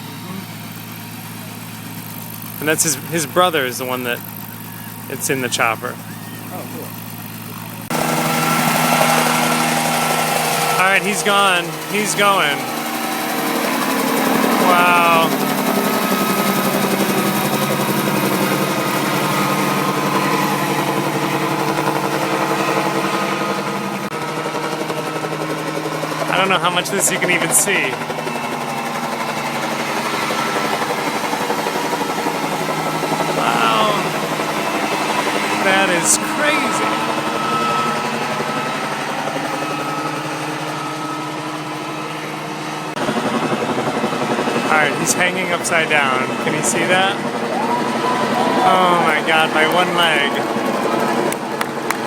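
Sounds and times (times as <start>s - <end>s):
helicopter engine hum: 0.0s - 52.0s
helicopter rotor beating: 0.0s - 52.0s.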